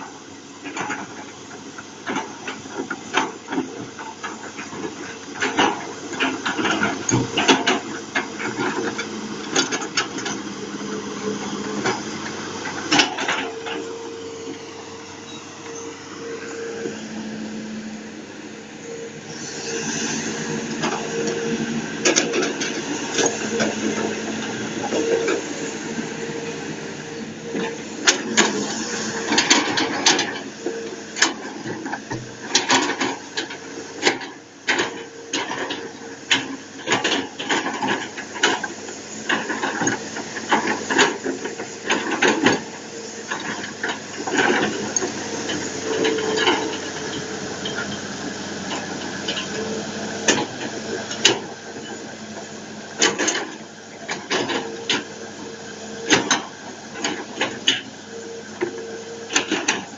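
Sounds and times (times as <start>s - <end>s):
excavator running: 0.0s - 59.9s.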